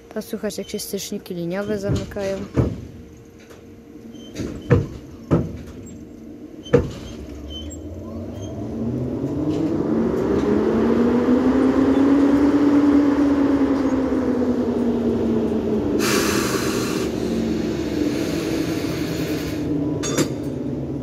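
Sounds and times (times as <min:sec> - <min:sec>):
locomotive contactors clacking: 0:00.0 - 0:10.6, 0:11.8 - 0:21.0
electric locomotive hum rising: 0:00.0 - 0:21.0.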